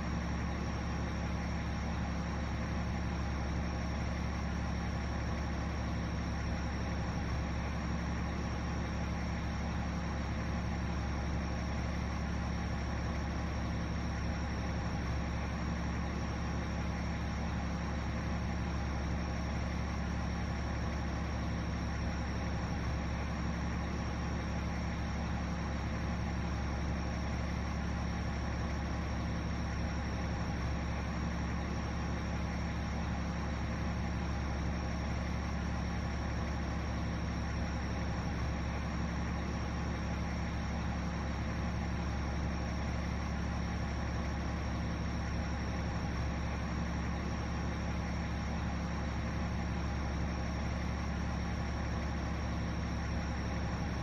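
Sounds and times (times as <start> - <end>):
fire engine idling: 0.0 - 54.0.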